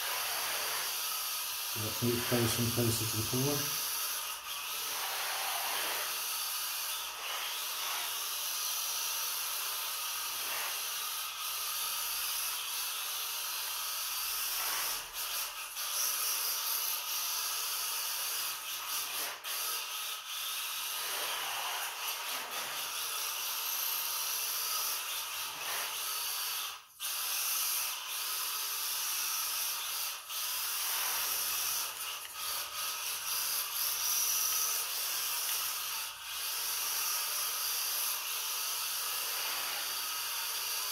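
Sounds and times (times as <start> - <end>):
toy car tyres scrubbing on tiles: 0.0 - 40.9.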